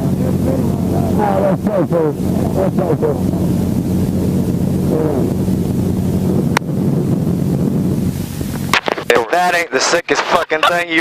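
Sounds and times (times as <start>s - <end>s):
helicopter engine and rotor drone: 0.0s - 11.0s
wind on microphone: 0.0s - 11.0s.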